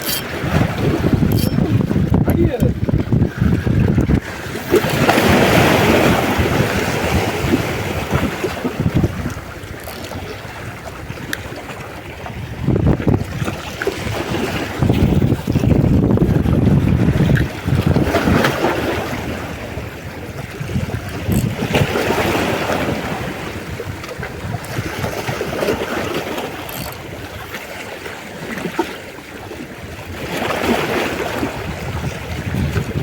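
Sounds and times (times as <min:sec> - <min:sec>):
wind buffeting microphone: 0:00.0 - 0:28.9, 0:29.5 - 0:33.0
sea waves washing in: 0:00.0 - 0:33.0.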